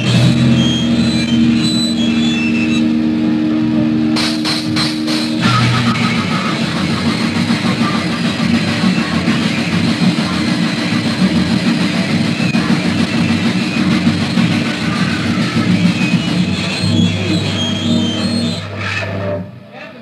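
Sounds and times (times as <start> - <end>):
punk band playing: 0.0 - 19.8.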